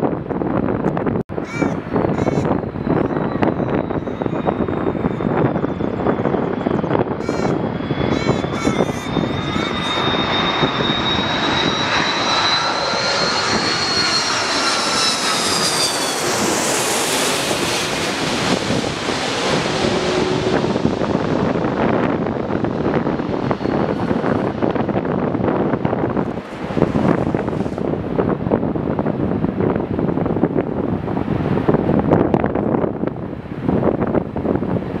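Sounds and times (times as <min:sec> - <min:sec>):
jet engines whining: 0:00.1 - 0:35.0.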